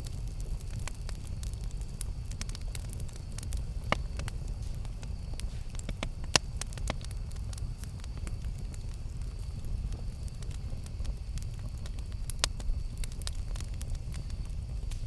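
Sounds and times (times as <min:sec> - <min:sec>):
campfire crackling: 0:00.0 - 0:15.0
sharp fire pops: 0:00.0 - 0:15.0.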